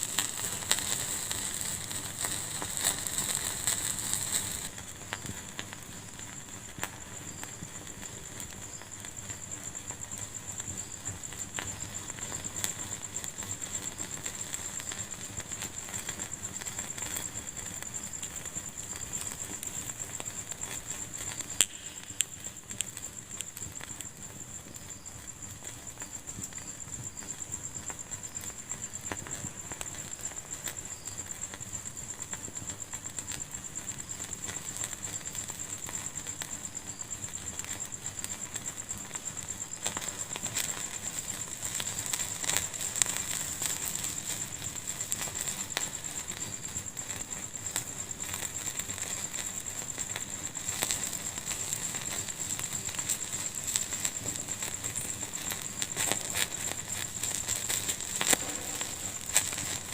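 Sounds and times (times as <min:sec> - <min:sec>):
fire crackling in fireplace: 0:00.0 - 0:59.9
steady high hiss: 0:00.0 - 0:59.9.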